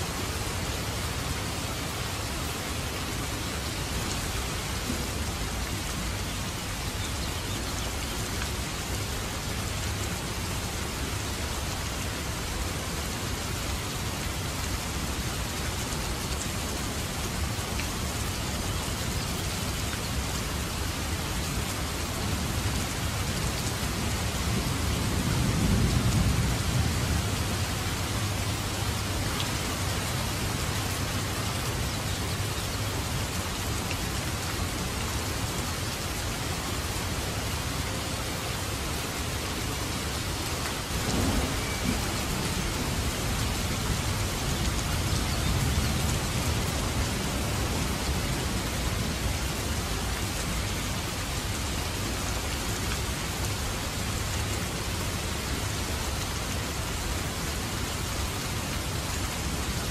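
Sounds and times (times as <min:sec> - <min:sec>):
rain falling on puddles: 0:00.0 - 0:59.9.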